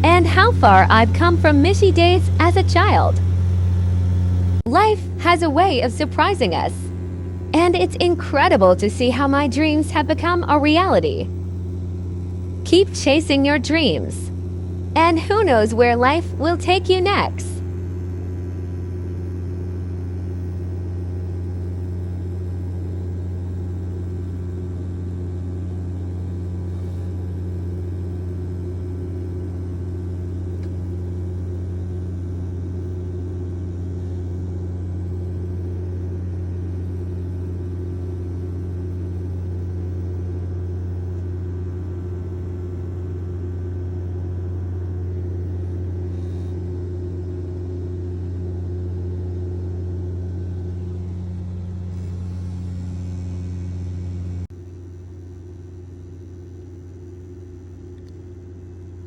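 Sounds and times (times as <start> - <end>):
airliner engine drone in cabin: 0.0 - 59.0.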